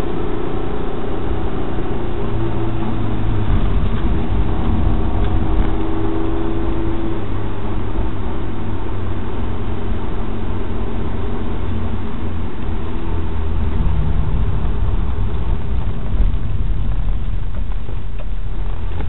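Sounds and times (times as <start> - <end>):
car engine running: 0.0 - 19.0
road noise: 0.0 - 19.0.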